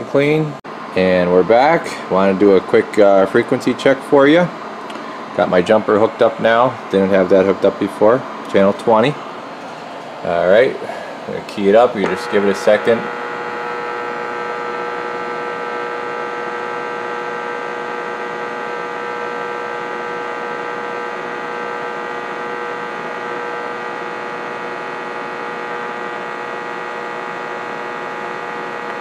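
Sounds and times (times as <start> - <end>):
electronic hum and whine: 0.0 - 29.0.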